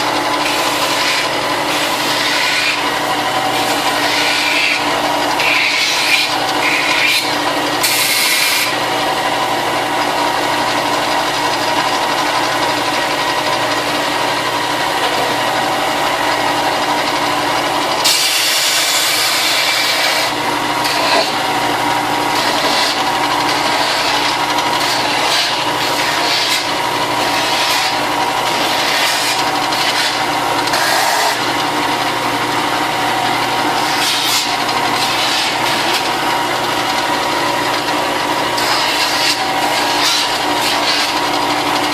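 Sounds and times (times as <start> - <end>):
electric sander sanding plastic: 0.0 - 41.9.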